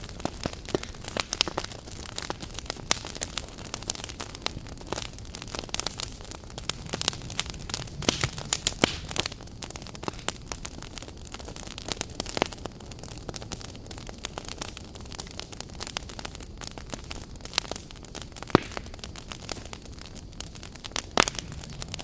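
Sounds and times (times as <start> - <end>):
firewood crackling and popping: 0.0 - 22.0
low rumble of flame: 0.0 - 22.0.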